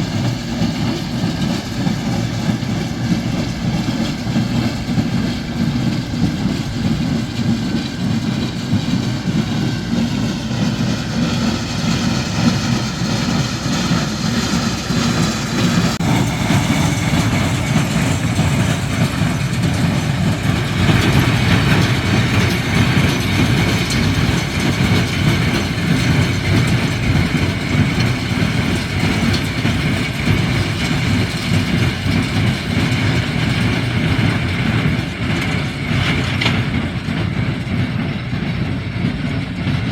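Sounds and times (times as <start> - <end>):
hay baler machinery working: 0.0 - 39.9
tractor engine running: 0.0 - 39.9.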